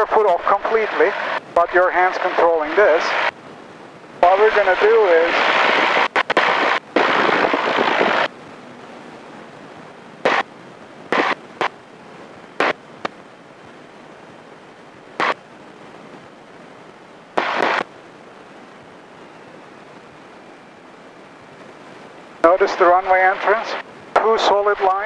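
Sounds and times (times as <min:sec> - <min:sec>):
bursts of microphone noise: 0:00.0 - 0:25.0
steady low hiss: 0:00.0 - 0:25.0.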